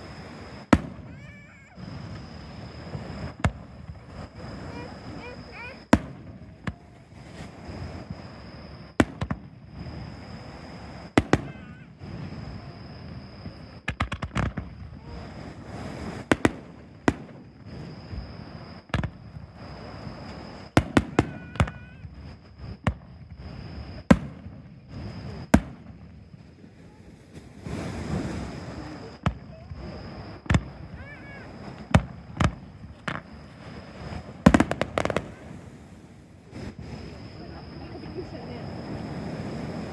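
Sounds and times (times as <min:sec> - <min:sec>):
fireworks bursting in bangs: 0:00.0 - 0:12.6, 0:13.5 - 0:17.9, 0:18.9 - 0:23.3, 0:24.0 - 0:37.0.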